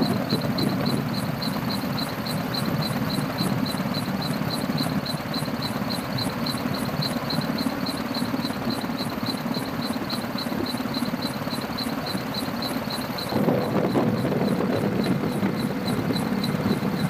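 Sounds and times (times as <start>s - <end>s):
aircraft engine and rotor rumble: 0.0s - 17.0s.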